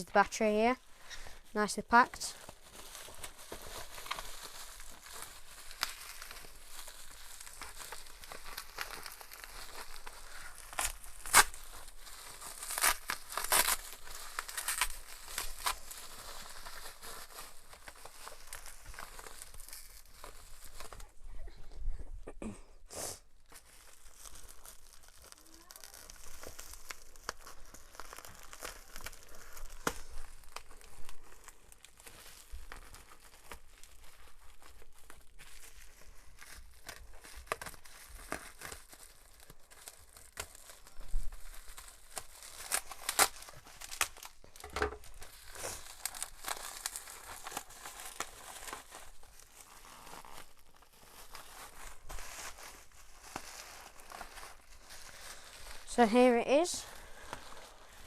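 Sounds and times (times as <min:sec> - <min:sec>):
packaging crinkling and tearing: 0:00.0 - 0:21.2, 0:23.4 - 0:58.0.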